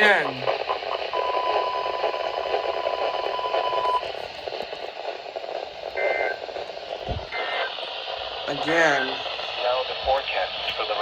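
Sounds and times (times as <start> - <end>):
radio static: 0.0 - 11.0.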